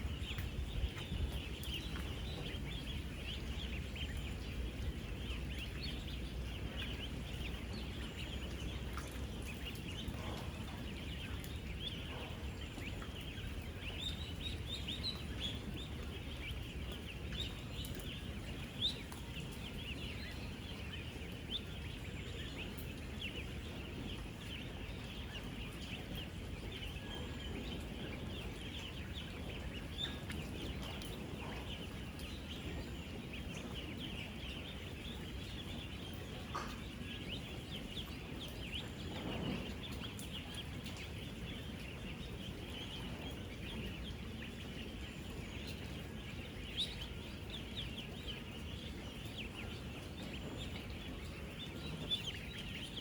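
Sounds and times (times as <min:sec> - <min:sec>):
ducklings peeping: 0:00.0 - 0:53.0.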